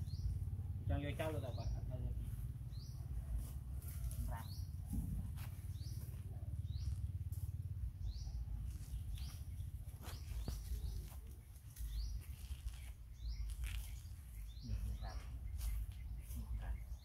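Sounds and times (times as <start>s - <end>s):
bird chirping: 0.0s - 17.0s
steady low rumble: 0.0s - 17.0s.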